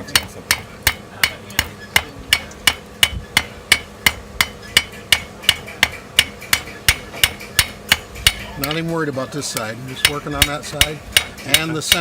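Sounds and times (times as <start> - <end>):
hammer striking metal on anvil: 0.0 - 12.0.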